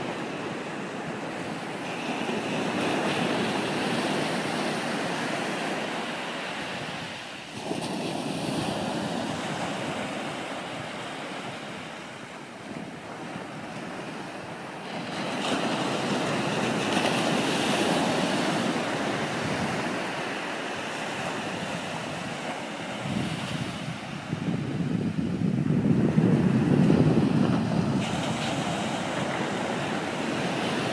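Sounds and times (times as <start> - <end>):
ocean surf on sandy beach: 0.0 - 30.9.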